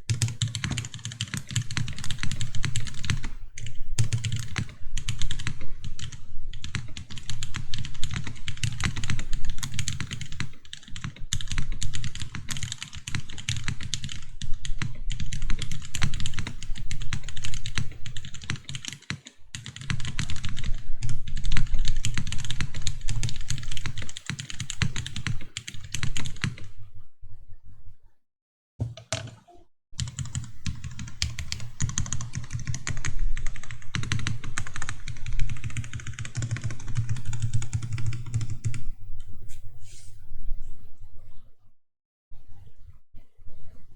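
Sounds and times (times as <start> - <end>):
fast keyboard typing: 0.1 - 26.7, 28.8 - 38.8.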